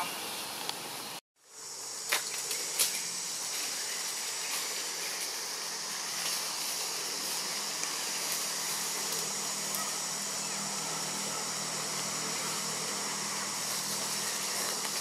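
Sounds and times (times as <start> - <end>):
insects hissing: 0.0 - 15.0.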